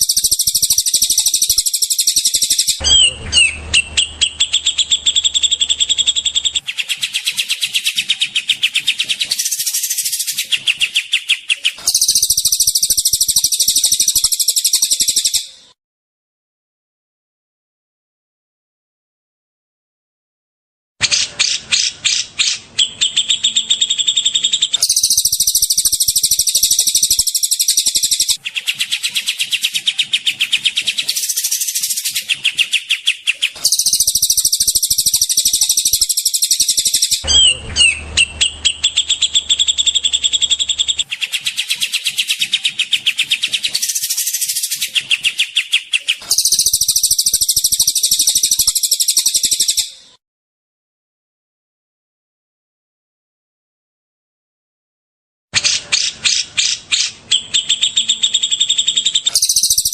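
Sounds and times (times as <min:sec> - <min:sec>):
songbirds trilling: 0:00.0 - 0:15.7, 0:21.2 - 0:50.1, 0:55.6 - 0:59.9.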